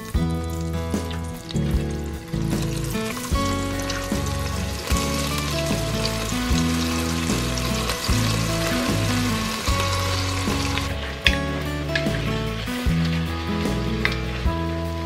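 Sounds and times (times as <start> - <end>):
background music: 0.0 - 15.0
chicken sizzling in butter: 0.0 - 15.0.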